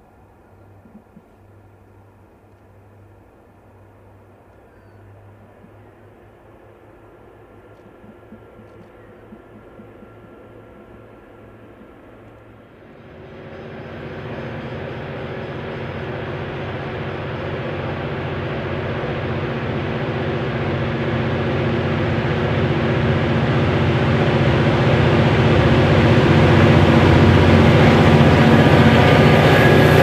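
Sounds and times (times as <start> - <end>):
diesel locomotives under load: 0.0 - 30.0.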